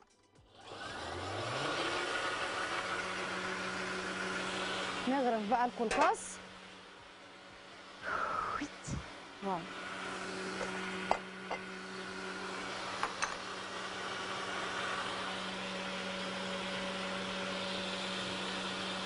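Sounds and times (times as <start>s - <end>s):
blender motor humming: 0.5s - 19.0s.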